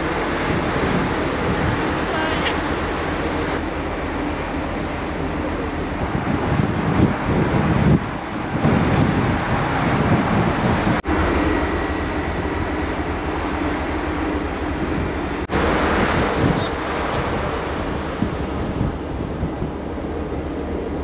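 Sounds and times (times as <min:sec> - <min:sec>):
sea rushing: 0:00.0 - 0:21.0
wind buffeting microphone: 0:00.0 - 0:21.0.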